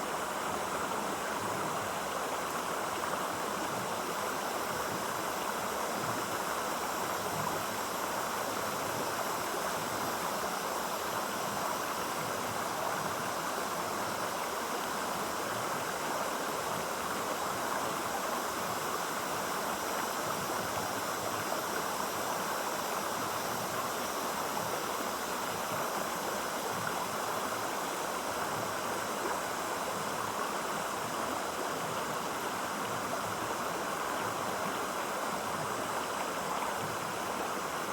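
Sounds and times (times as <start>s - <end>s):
stream water running: 0.0s - 37.9s.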